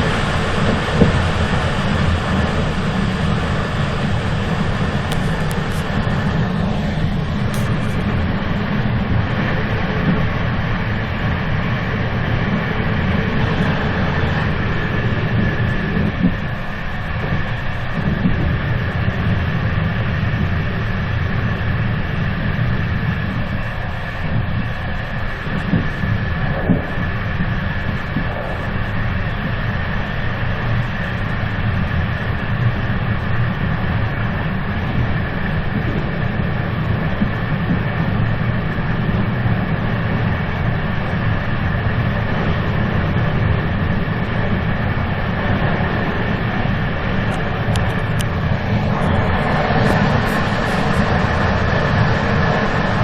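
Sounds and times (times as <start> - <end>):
train deep rumble: 0.0 - 53.0.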